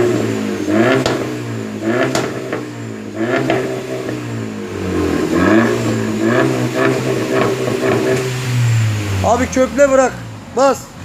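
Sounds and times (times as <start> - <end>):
sharp exhaust crack: 0.0 - 10.3
car engine revving: 0.0 - 11.0.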